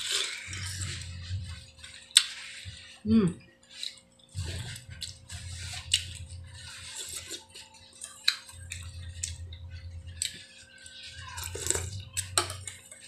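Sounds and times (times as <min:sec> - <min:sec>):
person slurping and chewing: 0:00.0 - 0:03.0, 0:03.7 - 0:13.0.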